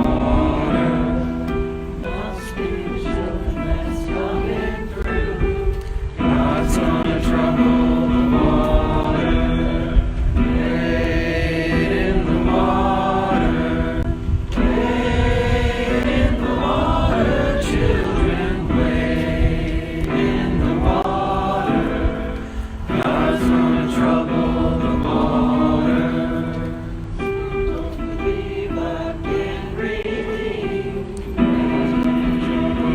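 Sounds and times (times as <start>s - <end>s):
group singing a hymn: 0.0s - 32.9s.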